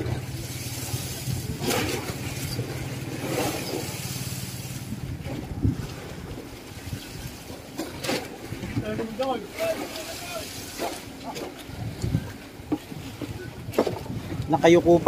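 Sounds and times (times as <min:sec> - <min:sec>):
boat engine humming: 0:00.0 - 0:15.0
wind and water noise: 0:00.0 - 0:15.0.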